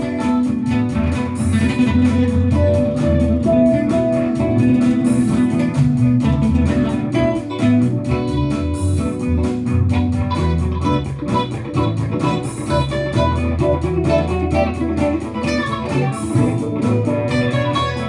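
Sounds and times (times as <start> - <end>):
electric guitar lead line: 0.0 - 18.0
looped guitar rhythm: 0.0 - 18.0.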